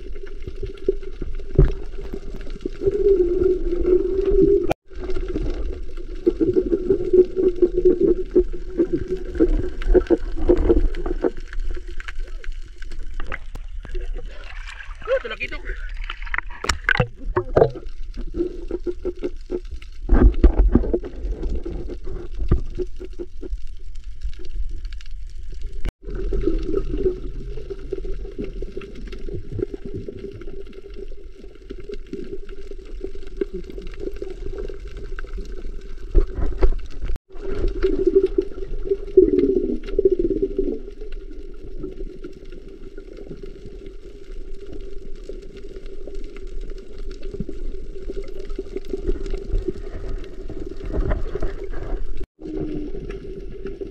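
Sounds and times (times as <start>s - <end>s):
muffled underwater water noise: 0.0s - 53.9s.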